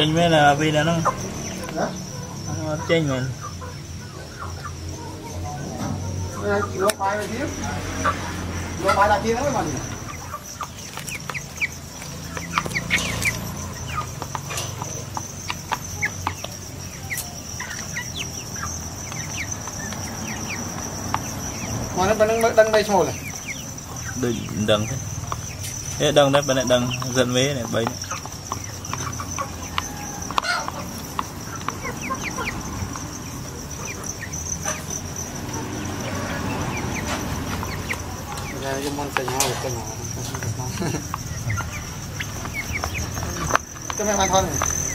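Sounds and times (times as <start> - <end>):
chicks peeping: 0.0 - 44.9
soft clucks: 0.7 - 44.9
high-pitched insect drone: 4.2 - 44.9.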